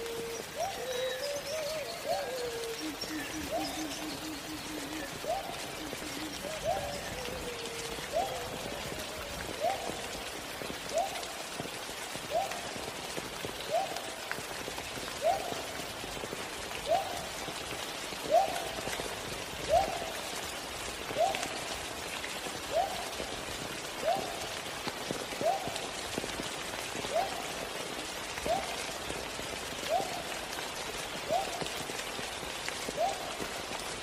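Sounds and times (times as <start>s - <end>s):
falling rain hiss: 0.0s - 34.0s.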